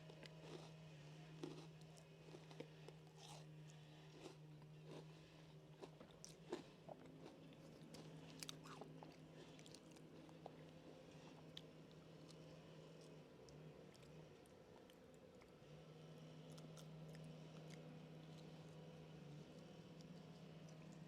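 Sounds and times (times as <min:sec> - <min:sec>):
chewing and crunching snack: 0:00.0 - 0:21.0
steady low hum: 0:00.0 - 0:21.0.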